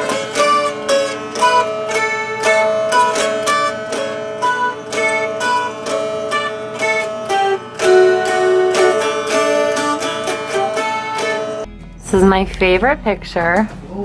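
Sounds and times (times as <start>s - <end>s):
mountain dulcimer picked melody: 0.0s - 13.6s.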